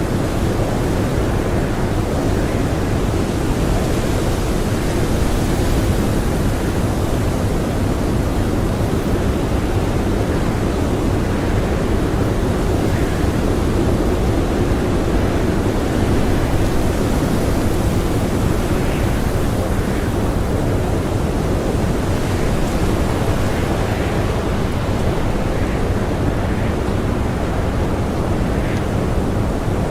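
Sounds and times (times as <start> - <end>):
strong blizzard wind: 0.0 - 29.9.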